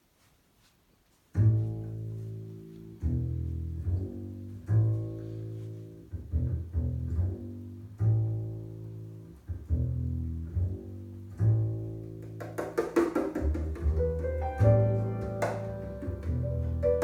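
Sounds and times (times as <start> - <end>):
plucked double bass: 1.3 - 17.0.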